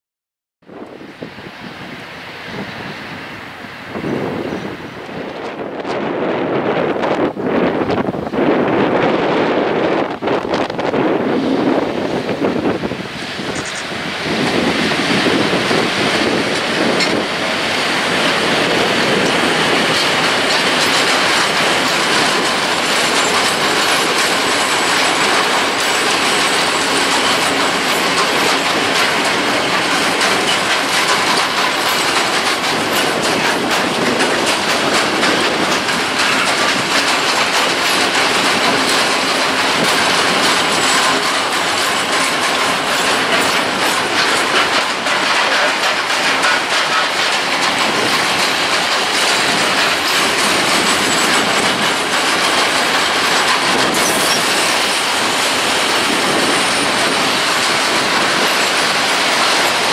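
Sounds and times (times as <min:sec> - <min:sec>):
freight train rumbling past: 0:00.7 - 0:59.9
wheels clacking over rail joints: 0:01.1 - 0:59.9.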